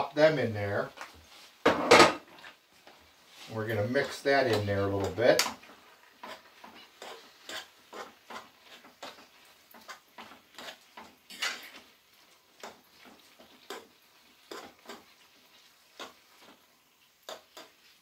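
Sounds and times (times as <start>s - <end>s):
utensil stirring food in frying pan: 0.0s - 18.0s.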